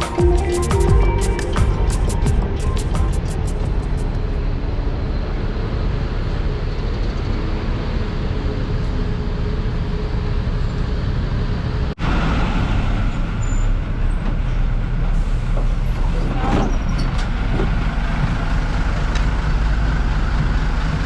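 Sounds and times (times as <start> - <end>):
road traffic engines: 0.0 - 21.0.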